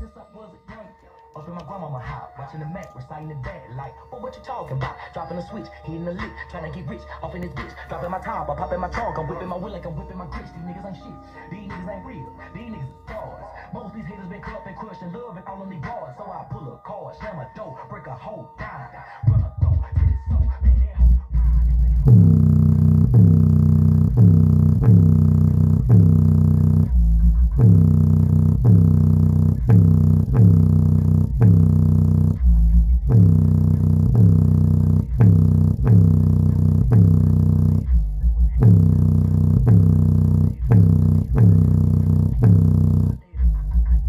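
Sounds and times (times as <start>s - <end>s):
bass-heavy hip hop beat: 0.0s - 44.0s.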